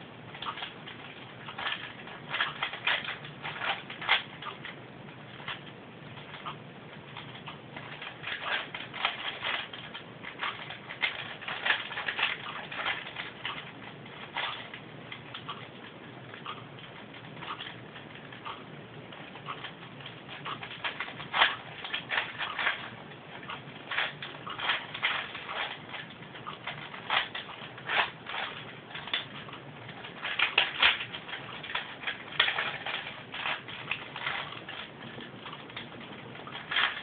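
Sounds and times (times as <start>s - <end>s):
puzzle cube clicking: 0.3s - 37.0s.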